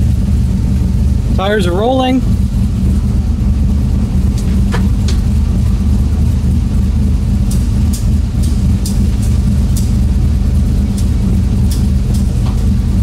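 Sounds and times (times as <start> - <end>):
truck engine running steadily: 0.0 - 13.0.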